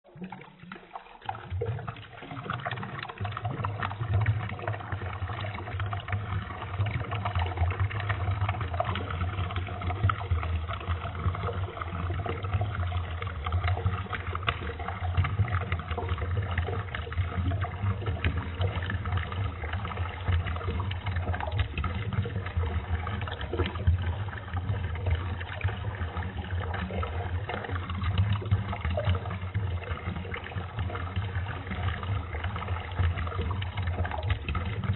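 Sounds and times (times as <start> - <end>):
slowed liquid stream gurgling: 0.0 - 34.9.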